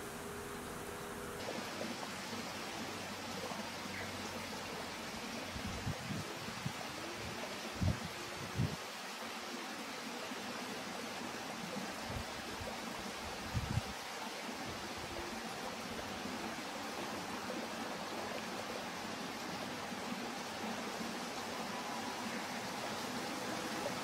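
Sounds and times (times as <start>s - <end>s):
outdoor ambient hiss: 0.0s - 24.0s.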